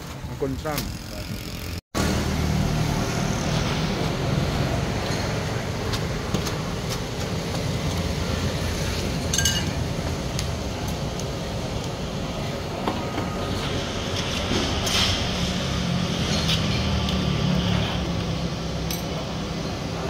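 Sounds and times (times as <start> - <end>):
passing traffic rumble: 0.4 - 20.0.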